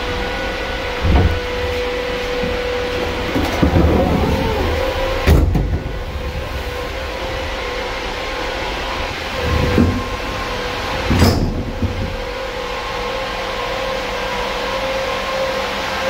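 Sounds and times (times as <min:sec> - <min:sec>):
truck machinery humming and whining: 0:00.0 - 0:16.0.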